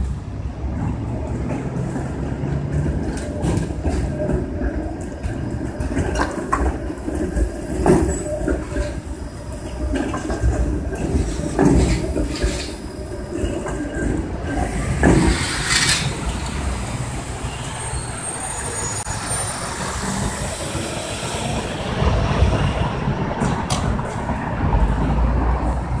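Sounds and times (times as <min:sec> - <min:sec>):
road traffic passing: 0:00.0 - 0:07.8, 0:08.6 - 0:26.0
streetcar wheels rumbling on rails: 0:00.0 - 0:26.0.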